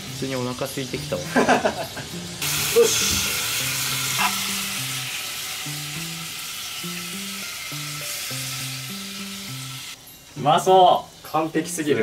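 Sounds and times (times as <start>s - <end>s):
light background music melody: 0.0s - 12.0s
meat sizzling in a frying pan: 0.0s - 12.0s.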